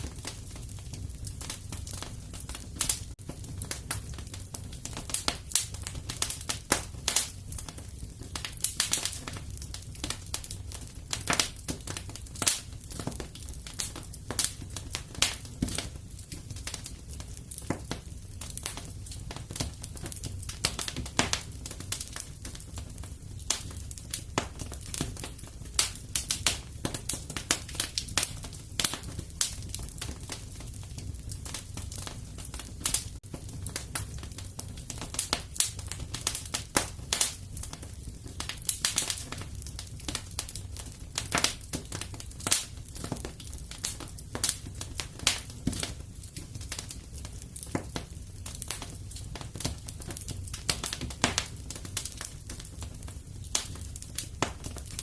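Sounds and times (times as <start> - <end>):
fire crackling: 0.0 - 55.0.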